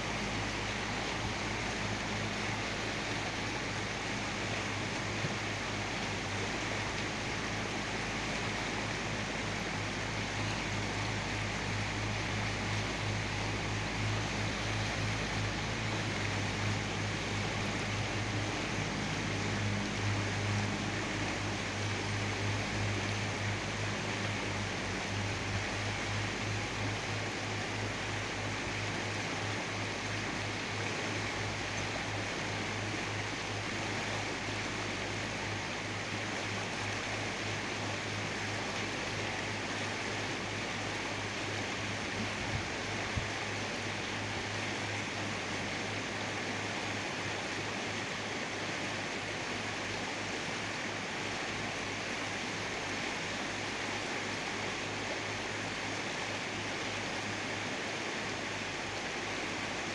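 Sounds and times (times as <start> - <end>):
low hum: 0.0 - 57.8
steady rushing noise: 0.0 - 59.9.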